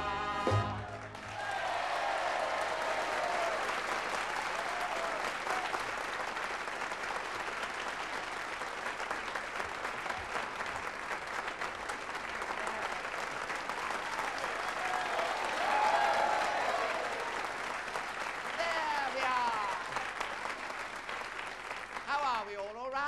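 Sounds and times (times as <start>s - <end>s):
audience applauding: 0.6s - 22.8s.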